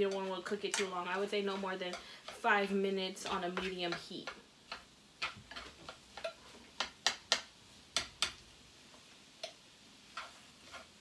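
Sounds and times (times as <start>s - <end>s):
chopsticks tapping a skillet: 0.0s - 11.0s.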